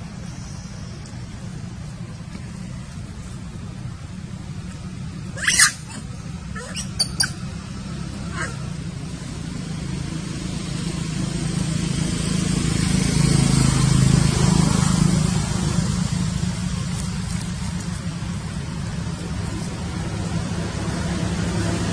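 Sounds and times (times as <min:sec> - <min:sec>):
motor vehicle passing: 0:00.0 - 0:21.9.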